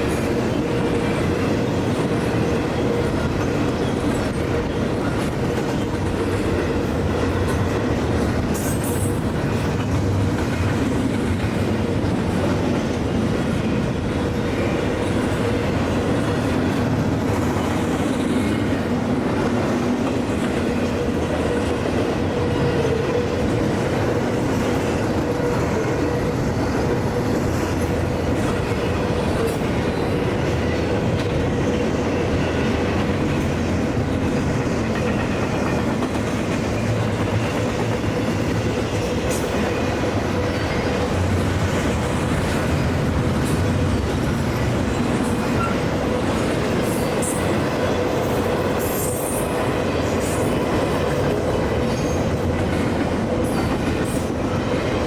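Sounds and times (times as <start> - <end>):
train wheels clattering on rail: 0.0 - 55.0.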